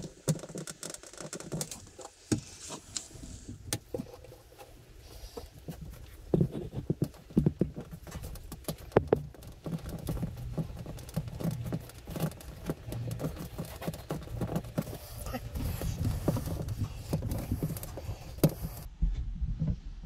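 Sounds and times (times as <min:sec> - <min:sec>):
low steady hum: 0:01.6 - 0:20.0.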